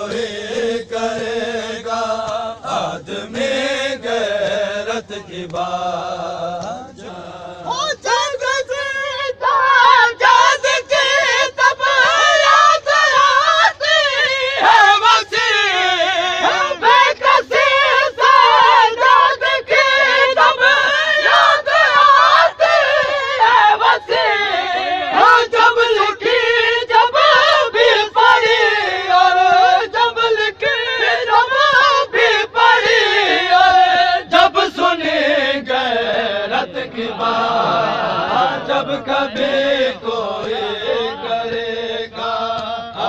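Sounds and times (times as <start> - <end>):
men chanting in chorus: 0.0 - 43.0.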